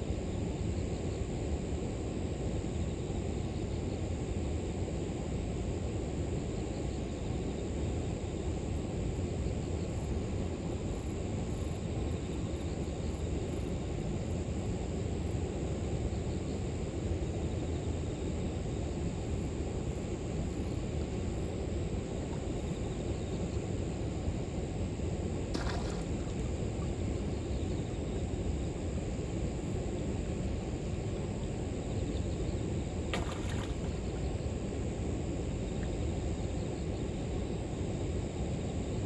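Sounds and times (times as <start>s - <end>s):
insects buzzing and chirping: 0.0s - 39.0s.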